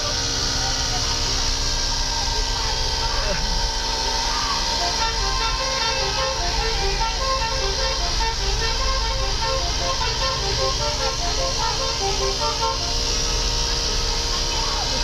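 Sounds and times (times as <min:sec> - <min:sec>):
low vehicle rumble: 0:00.0 - 0:15.0
multi-tone air horn tune: 0:00.0 - 0:15.0.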